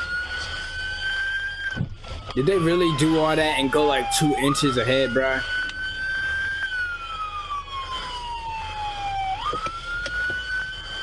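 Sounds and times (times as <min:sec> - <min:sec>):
police siren wailing: 0:00.0 - 0:11.0.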